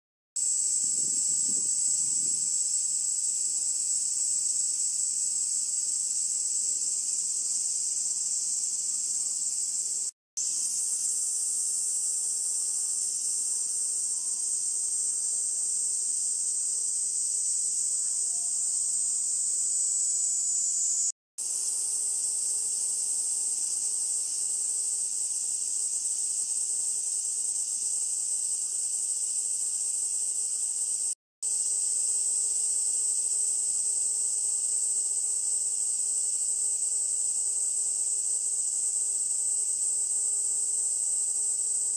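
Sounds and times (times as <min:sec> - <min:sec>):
cicada buzzing: 0:00.4 - 0:41.9.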